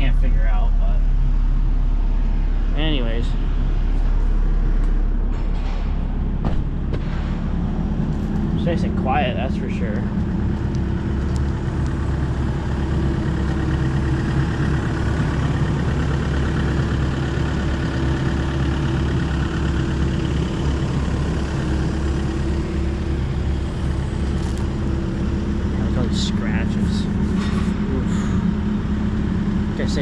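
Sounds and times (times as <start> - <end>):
excavator diesel engine idling: 0.0 - 30.0.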